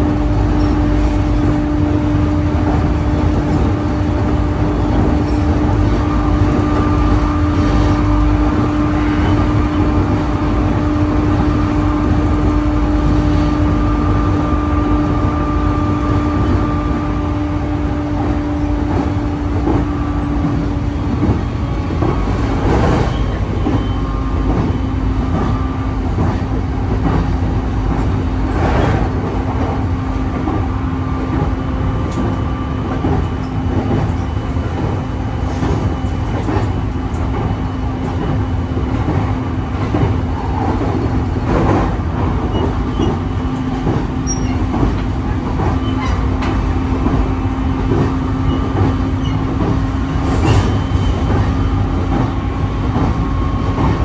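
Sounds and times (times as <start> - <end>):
train wheels rumbling on rail: 0.0 - 54.0
track clunks: 0.3 - 54.0.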